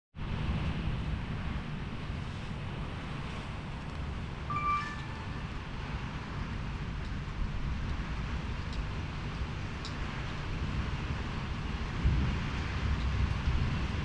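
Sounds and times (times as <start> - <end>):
storm wind buffeting microphone: 0.2 - 4.5, 5.3 - 14.0.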